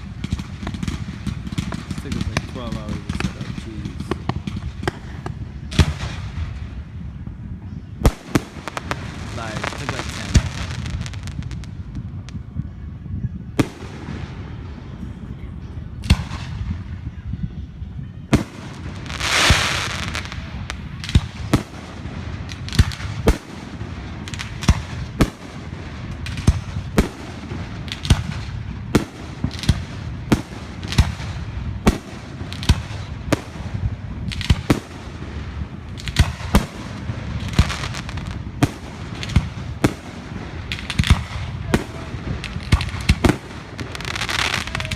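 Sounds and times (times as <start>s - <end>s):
fireworks banging: 0.0s - 6.9s, 7.8s - 12.6s, 18.3s - 44.9s.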